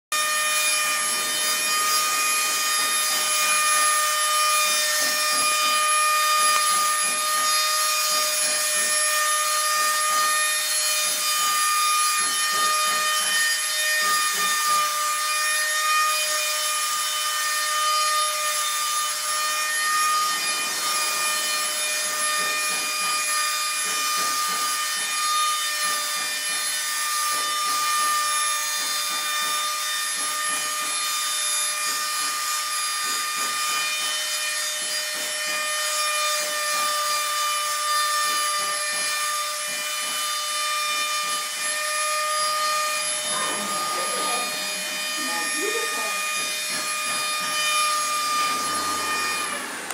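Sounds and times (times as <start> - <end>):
woodworking machine whining: 0.1 - 49.9.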